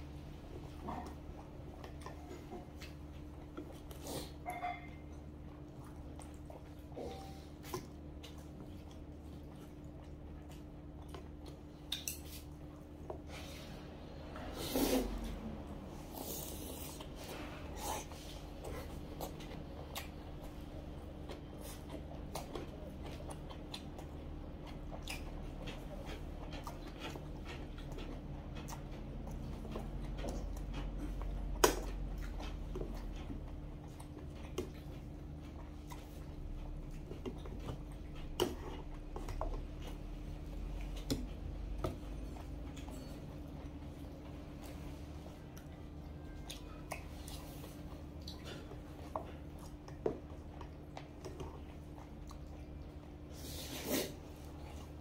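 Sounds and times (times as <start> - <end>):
faint steady hum: 0.0 - 55.0
person chewing: 0.7 - 55.0.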